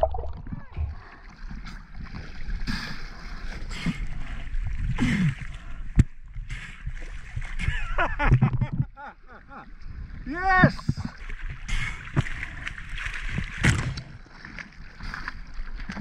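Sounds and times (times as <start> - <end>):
seawater splashing and sloshing: 0.0 - 16.0.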